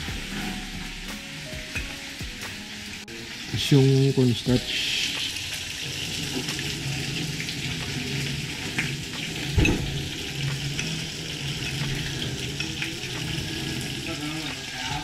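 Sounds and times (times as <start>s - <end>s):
gas stove hiss and hum: 0.0s - 15.0s.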